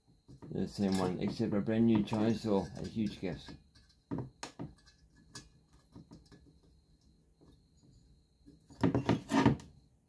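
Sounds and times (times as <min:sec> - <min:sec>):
metal knocking and scraping: 0:00.2 - 0:09.8.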